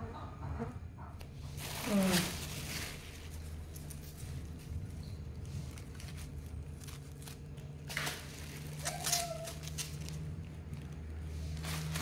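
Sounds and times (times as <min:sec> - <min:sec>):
fruit rustling and knocking: 0:01.2 - 0:12.0.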